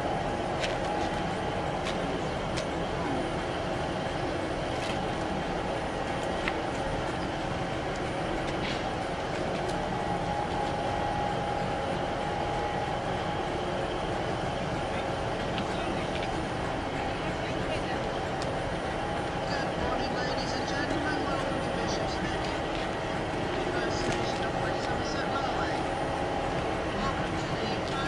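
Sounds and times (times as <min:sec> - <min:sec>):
train engine humming: 0:00.0 - 0:28.0.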